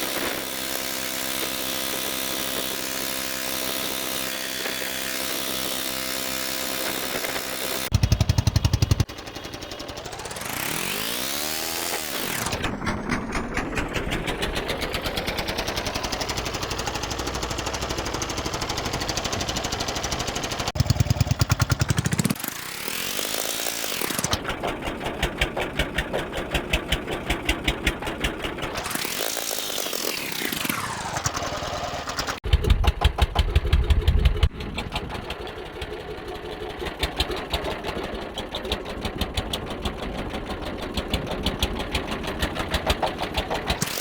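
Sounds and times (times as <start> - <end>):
small boat engine running: 0.0 - 44.0.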